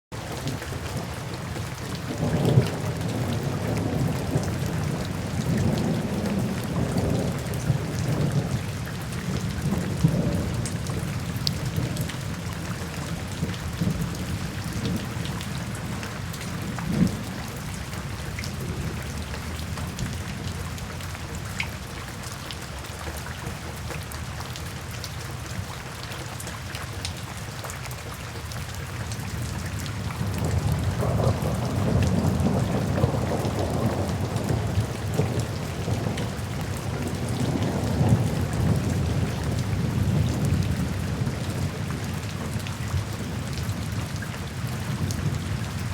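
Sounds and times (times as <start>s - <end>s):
steady rain: 0.1s - 45.9s
thunder rumbling: 0.7s - 21.4s, 29.4s - 45.9s.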